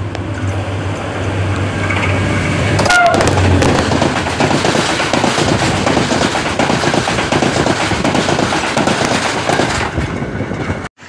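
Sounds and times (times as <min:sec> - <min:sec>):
train wheels clattering on rails: 0:00.1 - 0:10.9
rushing air: 0:00.2 - 0:11.0.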